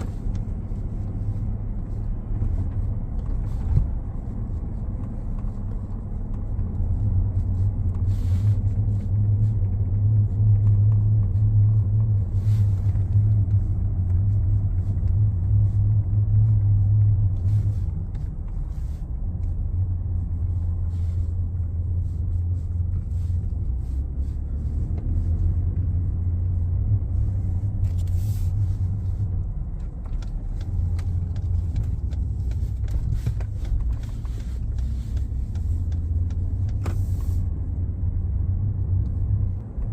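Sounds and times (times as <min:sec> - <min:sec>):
low humming drone of truck: 0:00.0 - 0:39.9.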